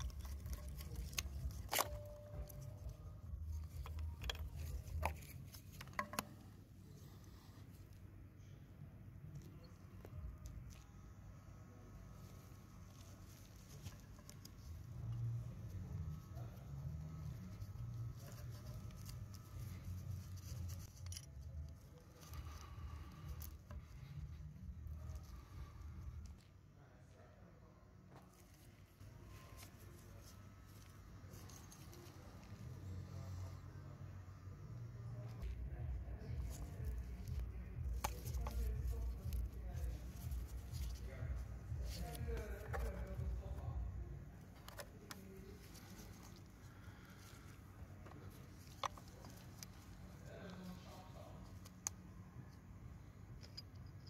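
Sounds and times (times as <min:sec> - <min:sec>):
faint handling sounds: 0:00.0 - 0:54.0.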